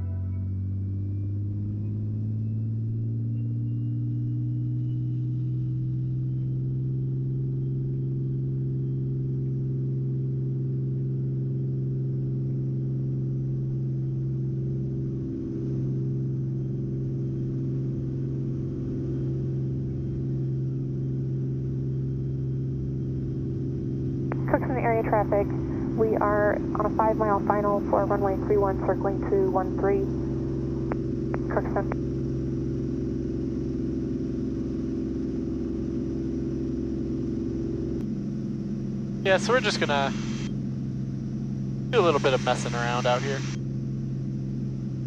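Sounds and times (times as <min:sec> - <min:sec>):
faint rising whine: 0:00.0 - 0:45.0
propeller aircraft engine drone: 0:00.0 - 0:45.0.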